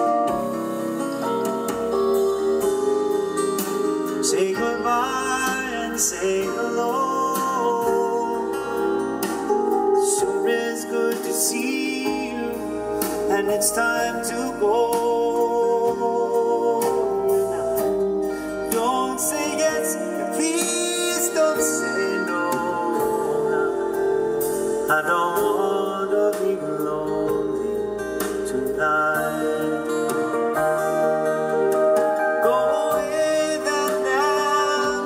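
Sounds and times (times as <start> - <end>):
song with singer and instruments: 0.0 - 35.0.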